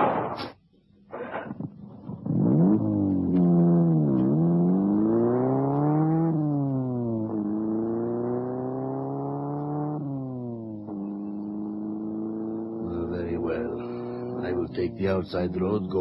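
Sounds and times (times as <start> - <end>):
car engine accelerating: 1.1 - 16.0.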